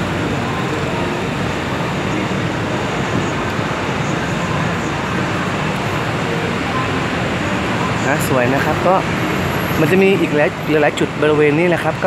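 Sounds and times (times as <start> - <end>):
cars and motorcycles passing: 0.0 - 12.0.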